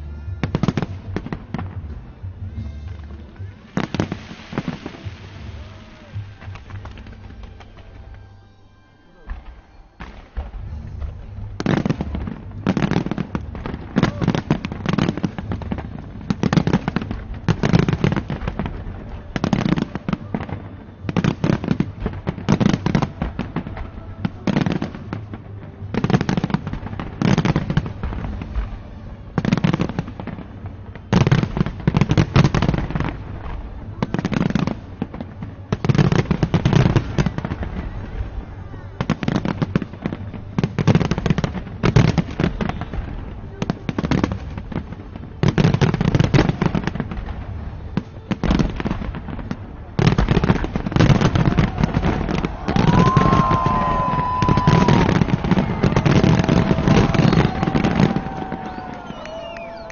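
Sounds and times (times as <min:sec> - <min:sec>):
fireworks exploding: 0:00.0 - 0:08.4, 0:09.2 - 0:59.9.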